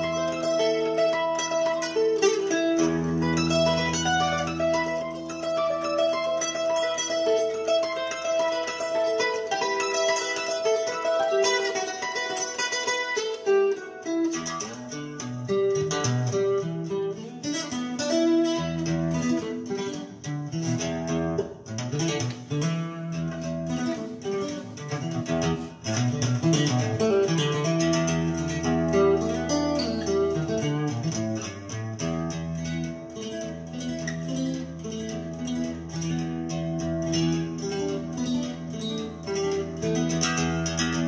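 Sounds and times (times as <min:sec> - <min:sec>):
instrumental guitar music: 0:00.0 - 0:41.0.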